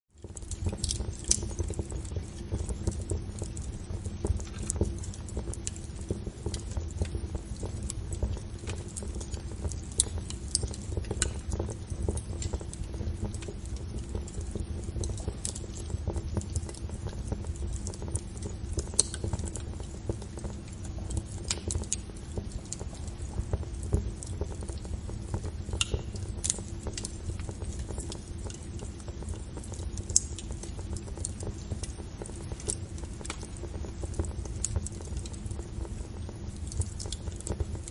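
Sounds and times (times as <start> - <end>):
campfire crackling and popping: 0.1 - 37.9.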